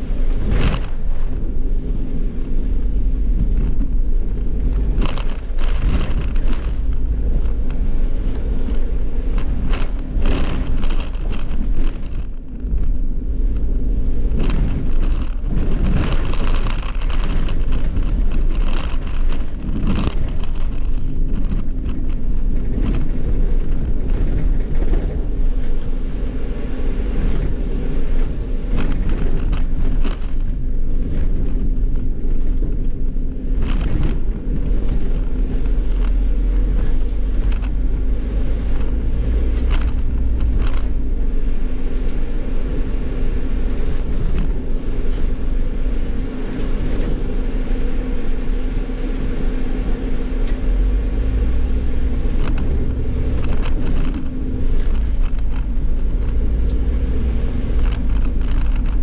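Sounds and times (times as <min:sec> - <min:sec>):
bus engine drone: 0:00.0 - 0:59.0
rattles and knocks of bus body: 0:00.0 - 0:59.0.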